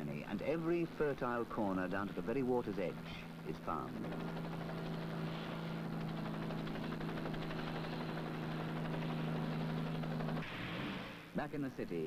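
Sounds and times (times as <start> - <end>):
aircraft engine droning: 0.0 - 11.3.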